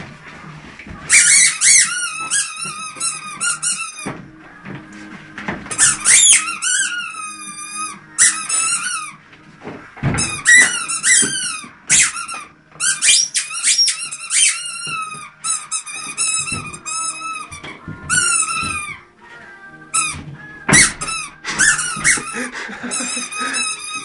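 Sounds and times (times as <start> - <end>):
squeaky dog toy squeaking: 1.1 - 4.2, 5.7 - 9.2, 10.2 - 19.1, 19.9 - 24.0.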